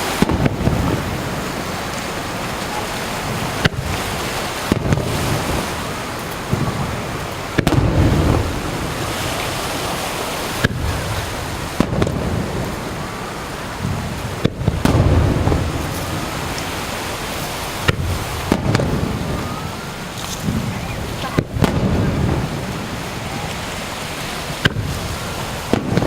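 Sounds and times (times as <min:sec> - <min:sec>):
fireworks bursting: 0:00.0 - 0:26.0
surf: 0:00.0 - 0:26.0
wind: 0:00.0 - 0:26.0.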